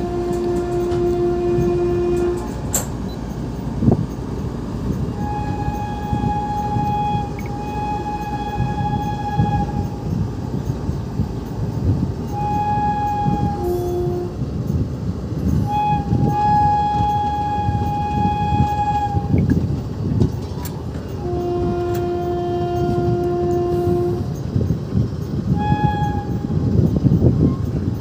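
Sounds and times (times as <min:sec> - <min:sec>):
train horn blasts: 0:00.0 - 0:04.1, 0:04.9 - 0:14.8, 0:15.4 - 0:19.6, 0:21.0 - 0:24.7, 0:25.4 - 0:27.7
train rumble and wheel clatter: 0:00.0 - 0:28.0.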